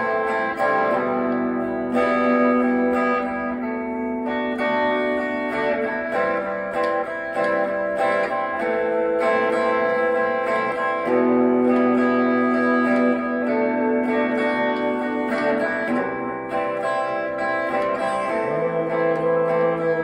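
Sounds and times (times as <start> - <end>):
electric guitar playing chords: 0.0 - 20.0.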